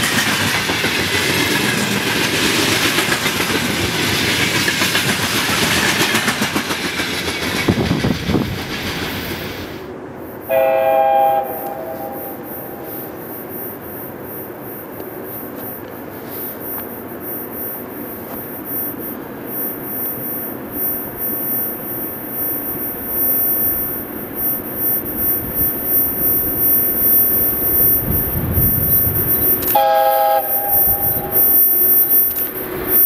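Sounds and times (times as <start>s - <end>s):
freight train rumbling: 0.0s - 19.5s, 20.5s - 33.0s.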